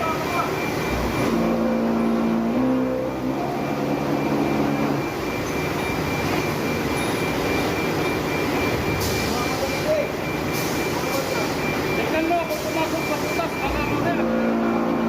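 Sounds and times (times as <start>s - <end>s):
forklift engine humming: 0.0s - 15.0s.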